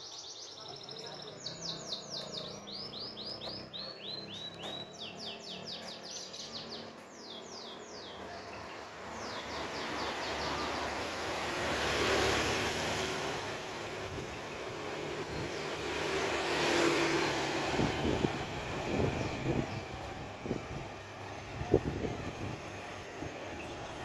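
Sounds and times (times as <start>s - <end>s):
vehicle approaching: 1.2s - 24.0s.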